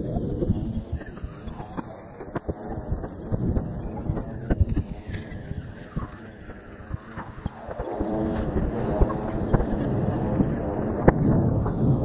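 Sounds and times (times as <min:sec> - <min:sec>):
plane droning overhead: 0:00.0 - 0:12.0.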